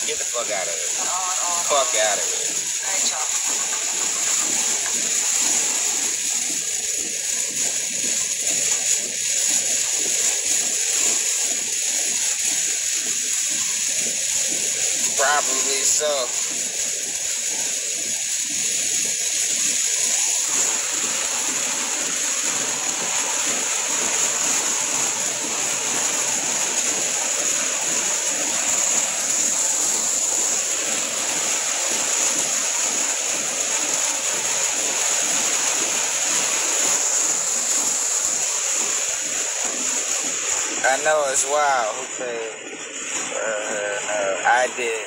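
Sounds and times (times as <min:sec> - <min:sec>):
rushing hiss inside car cabin: 0:00.0 - 0:45.0.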